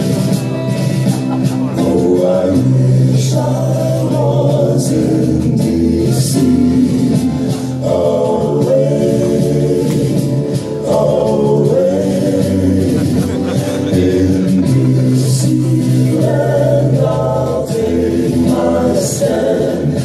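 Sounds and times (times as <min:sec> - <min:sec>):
recorded backing music: 0:00.0 - 0:20.0
man singing into a microphone: 0:01.7 - 0:20.0.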